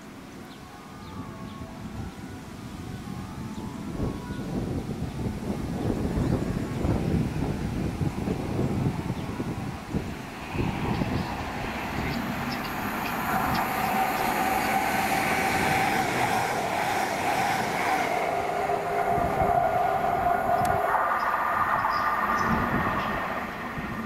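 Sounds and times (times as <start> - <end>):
train whine: 0.0 - 24.0
train wheels rumbling on rail: 3.9 - 24.0.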